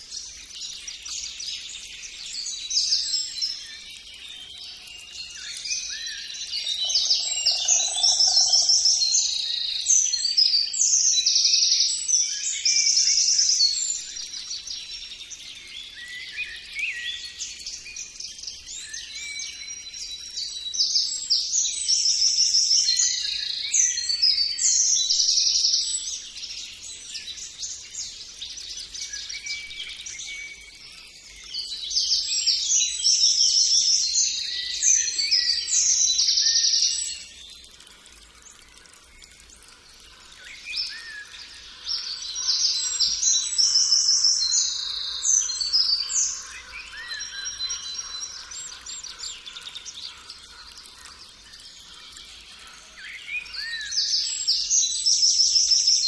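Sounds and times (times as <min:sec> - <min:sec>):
songbirds singing and trilling: 0:00.0 - 0:56.0.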